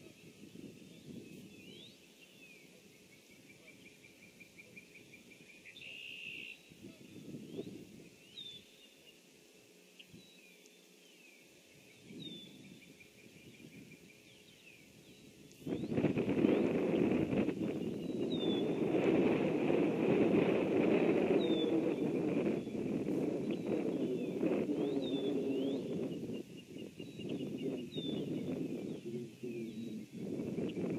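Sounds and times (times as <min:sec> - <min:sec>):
low rumbling background noise: 0:00.0 - 0:30.9
small birds chirping: 0:00.0 - 0:30.9.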